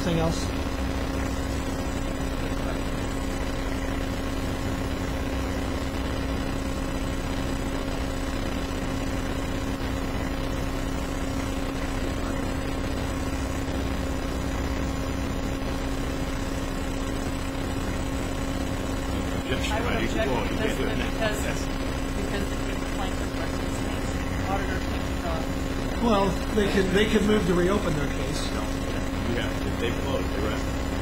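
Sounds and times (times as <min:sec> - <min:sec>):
low droning hum: 0:00.0 - 0:31.0.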